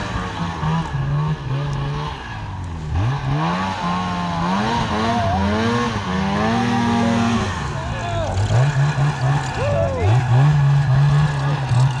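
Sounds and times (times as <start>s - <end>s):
snowmobile engine revving: 0.0s - 12.0s
track spinning in wet snow: 2.1s - 12.0s.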